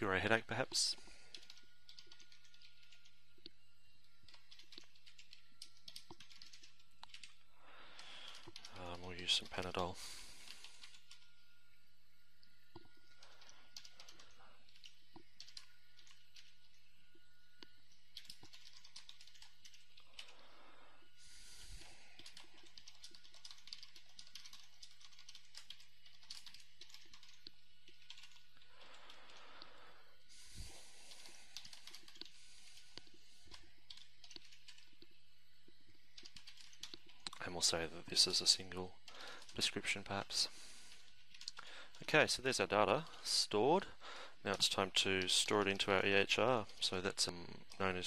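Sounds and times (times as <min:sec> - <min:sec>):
low electrical hum: 0:00.0 - 0:48.0
faint keyboard typing: 0:00.6 - 0:11.6, 0:12.4 - 0:20.6, 0:21.7 - 0:29.8, 0:30.6 - 0:35.2, 0:35.9 - 0:43.4, 0:44.4 - 0:48.0.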